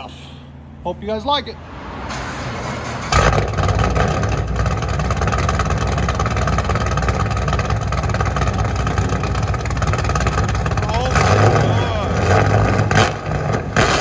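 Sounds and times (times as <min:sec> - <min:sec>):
car engine idling deeply: 0:02.2 - 0:14.0.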